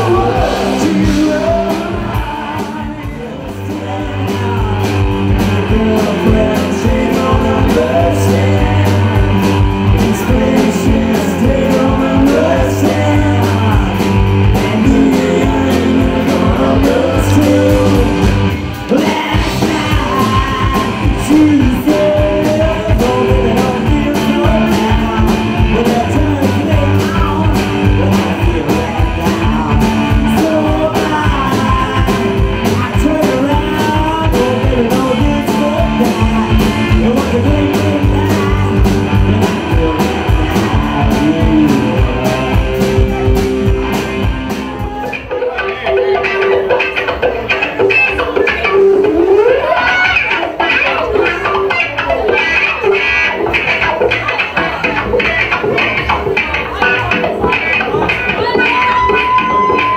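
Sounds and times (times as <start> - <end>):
bass guitar: 0.0 - 59.9
drums: 0.0 - 59.9
electric guitar: 0.0 - 59.9
lead vocals: 0.0 - 59.9.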